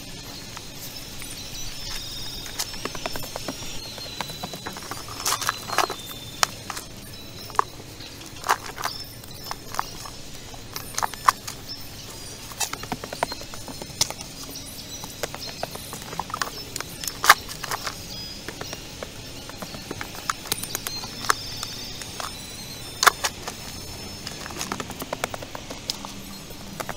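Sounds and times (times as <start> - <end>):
stones and gravel clacking: 0.1 - 26.9.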